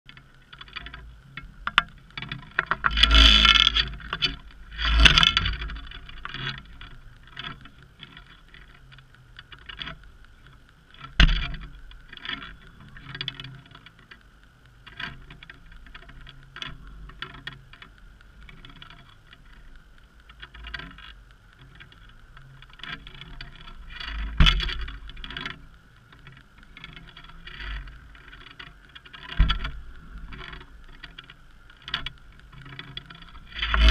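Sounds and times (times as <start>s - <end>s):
underwater clicks and knocks: 0.1s - 14.1s, 20.3s - 33.9s
faint steady hum: 0.1s - 33.9s.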